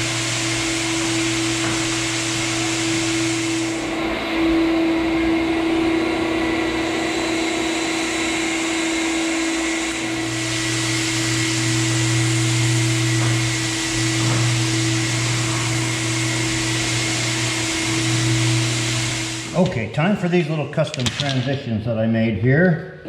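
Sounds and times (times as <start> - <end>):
electric motor humming: 0.0 - 19.8.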